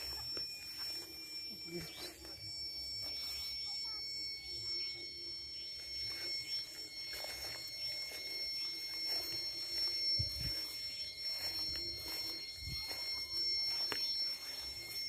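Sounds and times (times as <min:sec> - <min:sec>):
high-pitched electronic tones: 0:00.0 - 0:15.0.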